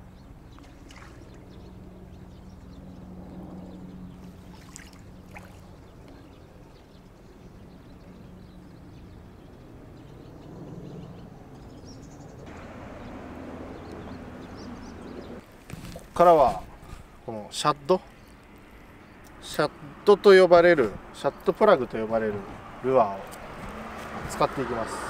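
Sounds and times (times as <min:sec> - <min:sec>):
outdoor ambience: 0:00.0 - 0:25.0.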